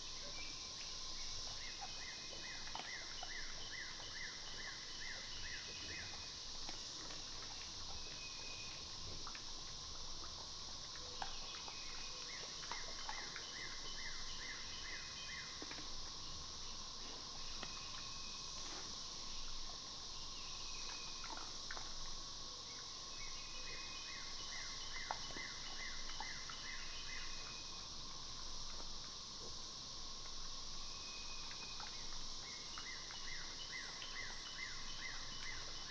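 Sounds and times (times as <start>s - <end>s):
insect chorus buzzing: 0.0s - 35.9s.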